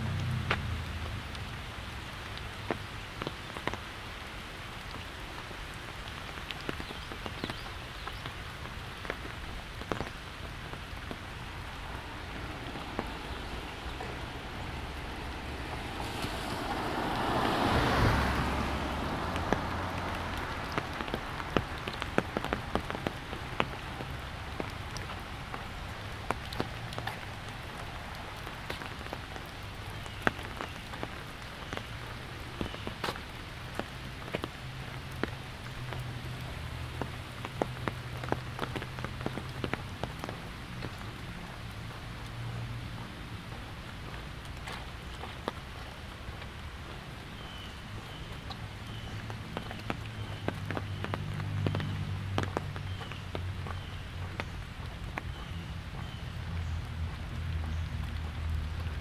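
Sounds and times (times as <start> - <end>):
rain on an umbrella: 0.0 - 59.0.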